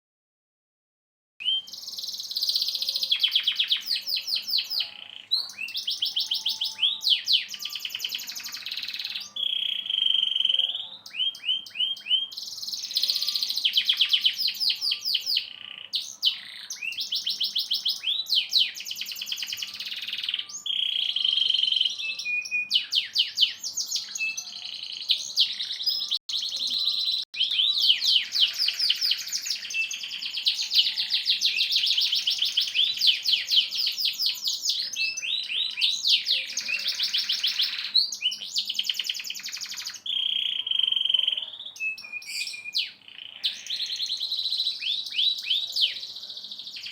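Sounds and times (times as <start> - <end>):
canary singing trills: 1.4 - 46.9.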